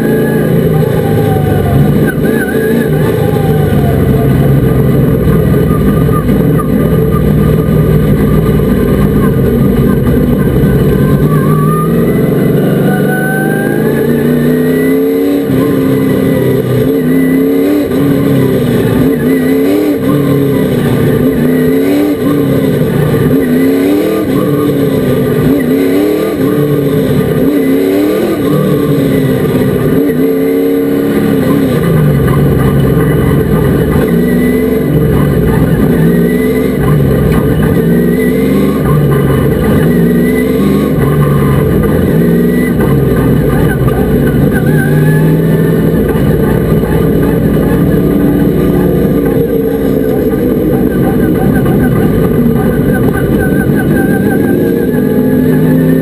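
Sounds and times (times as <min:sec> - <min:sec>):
racing truck engine running hard: 0:00.0 - 0:56.0.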